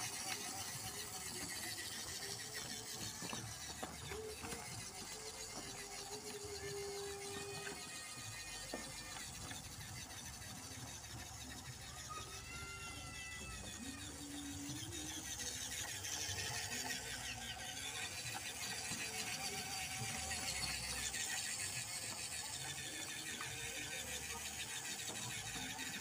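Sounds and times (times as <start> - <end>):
toy truck motor whirring: 0.0 - 26.0.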